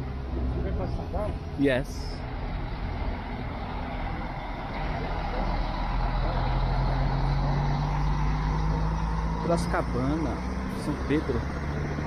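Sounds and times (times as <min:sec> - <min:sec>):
coach diesel engine passing: 0:00.0 - 0:12.0
coach engine approaching: 0:00.0 - 0:12.0.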